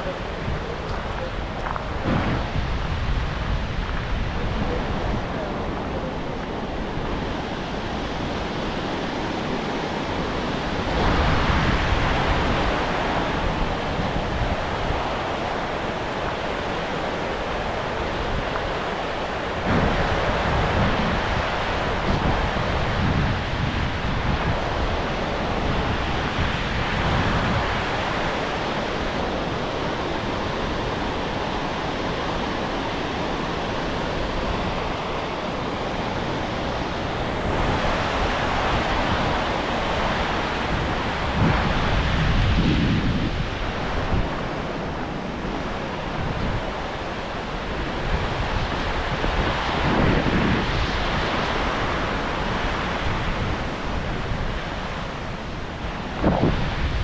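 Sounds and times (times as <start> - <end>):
river water rushing: 0.0 - 57.0
wind buffeting microphone: 0.0 - 57.0.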